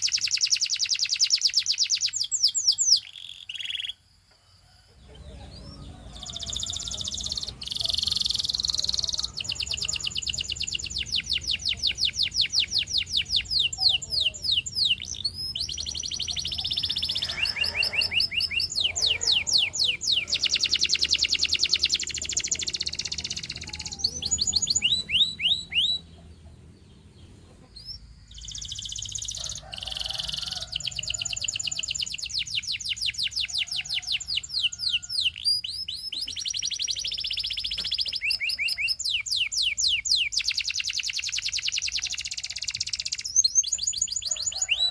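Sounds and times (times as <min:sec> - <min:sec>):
canary singing trills: 0:00.0 - 0:04.1, 0:04.7 - 0:44.9.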